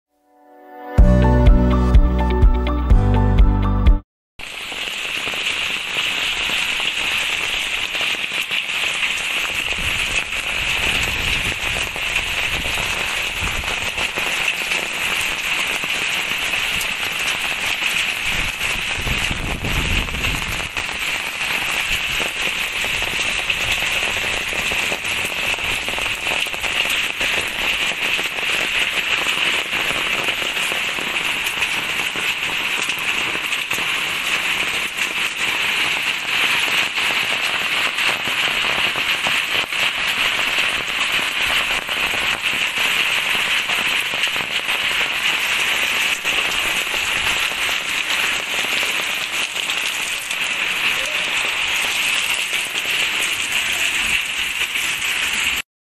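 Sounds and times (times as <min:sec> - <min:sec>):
hail and heavy rain pelting: 0:04.4 - 0:55.6.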